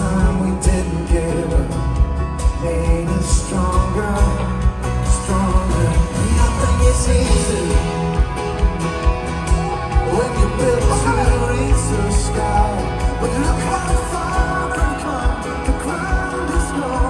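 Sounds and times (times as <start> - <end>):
folk-rock band playing live: 0.0 - 17.0
steady drum beat: 0.0 - 17.0.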